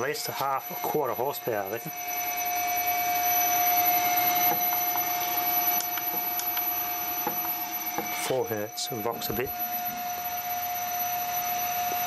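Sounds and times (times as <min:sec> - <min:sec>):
high-pitched electrical whine: 0:00.0 - 0:12.0.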